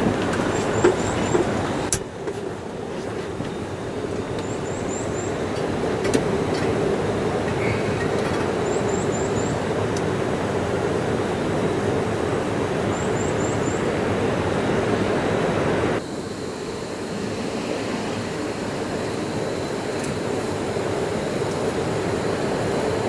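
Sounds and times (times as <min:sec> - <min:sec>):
gas stove burner roaring: 0:00.0 - 0:23.0.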